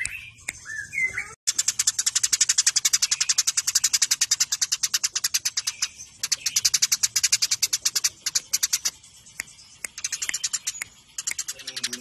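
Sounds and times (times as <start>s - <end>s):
sparrows chirping rapidly: 0.0s - 12.0s.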